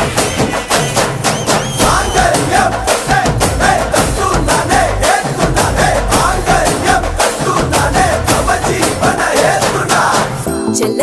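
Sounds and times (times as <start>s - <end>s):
steady drum beat: 0.0s - 10.5s.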